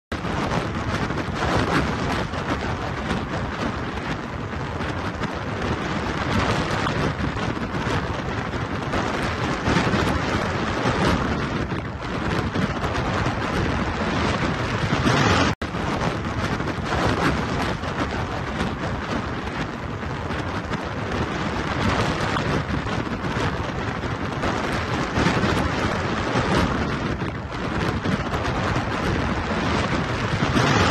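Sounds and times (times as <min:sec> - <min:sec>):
storm wind buffeting microphone: 0:00.1 - 0:30.9.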